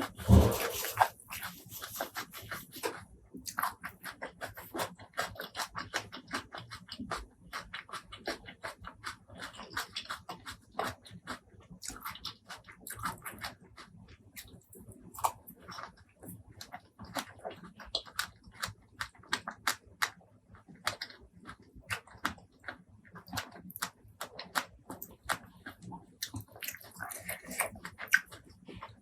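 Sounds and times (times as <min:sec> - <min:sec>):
wet chewing and mouth clicks: 0:00.0 - 0:29.0.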